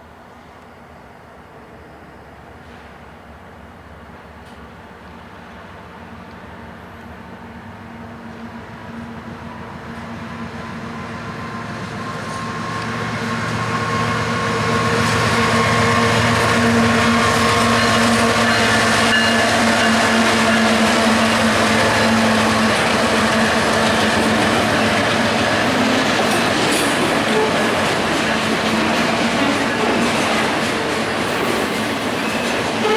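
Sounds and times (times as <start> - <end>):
freight train passing: 0.0 - 32.9.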